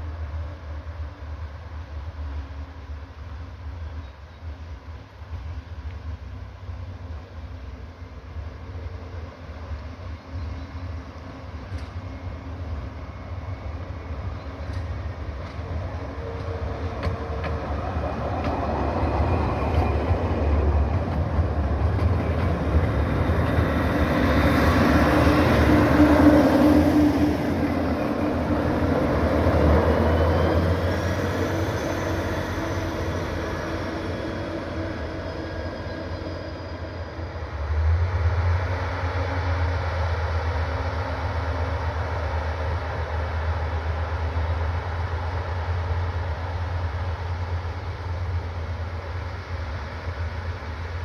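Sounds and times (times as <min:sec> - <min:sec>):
diesel railcar running past: 0:00.0 - 0:51.0.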